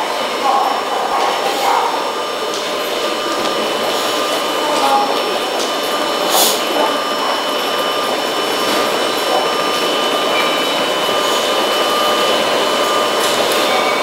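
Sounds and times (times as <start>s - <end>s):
thin whine tones: 0.0s - 14.0s
whirring machine hum: 0.0s - 14.0s.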